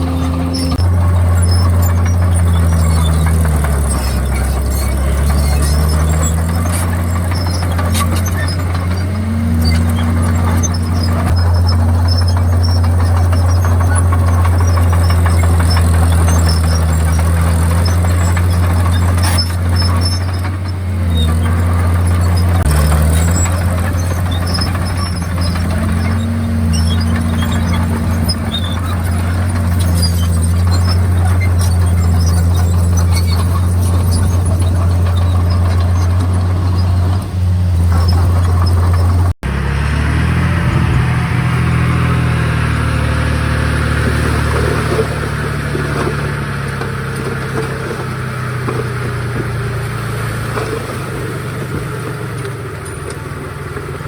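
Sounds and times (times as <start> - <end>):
small squeaks and clicks: 0.0 - 39.4, 43.8 - 53.9
bulldozer diesel engine droning: 0.0 - 54.0.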